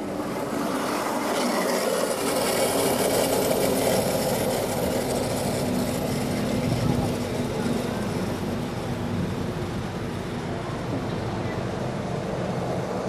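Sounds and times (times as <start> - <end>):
model train whirring on track: 0.0 - 13.0.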